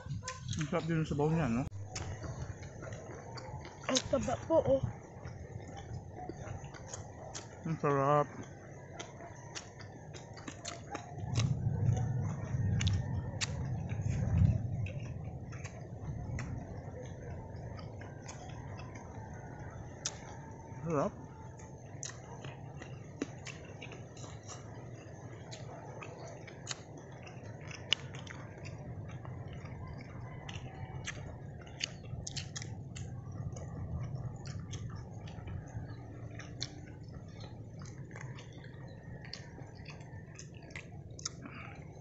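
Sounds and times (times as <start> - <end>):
steady low rumble: 0.0 - 7.8, 9.6 - 42.0
people chewing and smacking: 0.0 - 42.0.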